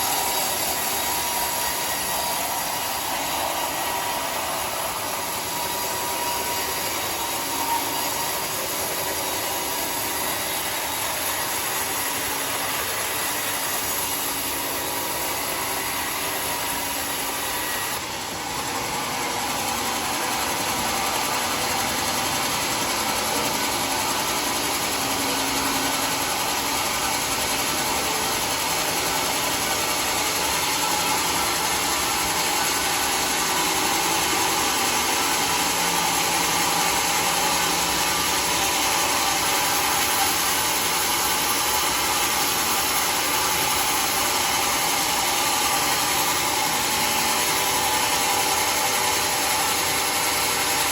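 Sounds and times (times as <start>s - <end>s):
circular sawmill running: 0.0s - 50.9s.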